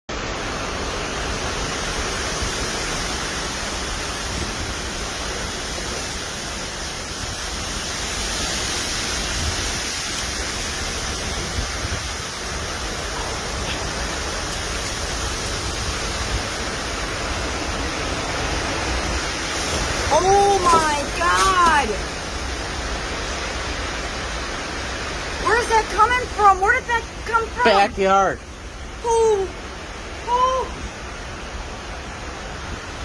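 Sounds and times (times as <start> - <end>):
strong wind blowing: 0.2 - 33.0
wind buffeting the microphone: 0.6 - 27.6.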